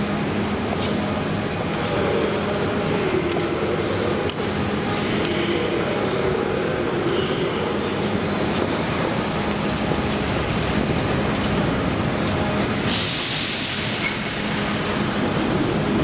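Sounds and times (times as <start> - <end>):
subway train humming: 0.0 - 16.0.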